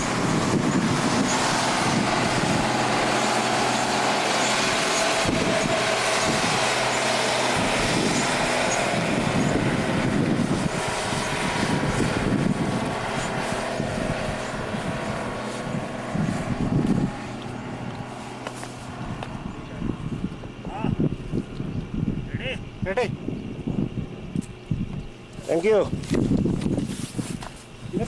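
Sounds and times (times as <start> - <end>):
truck engine running: 0.0 - 22.8.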